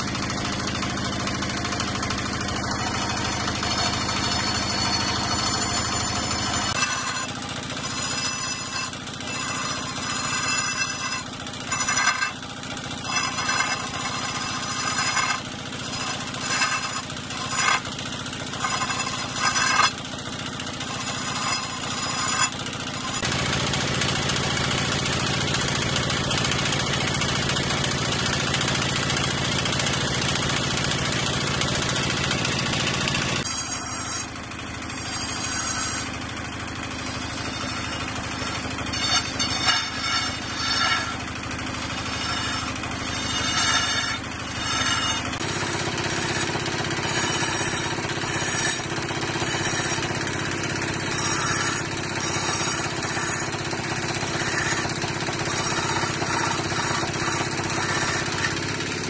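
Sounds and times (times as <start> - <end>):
chisel scraping spinning wood: 0.0 - 59.0
lathe motor hum: 1.4 - 23.4, 32.3 - 59.0.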